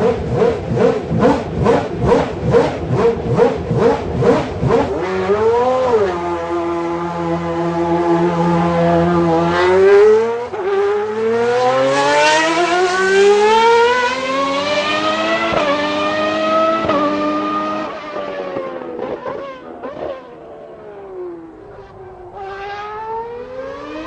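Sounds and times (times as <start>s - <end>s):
racing car engine accelerating: 0.0s - 24.0s.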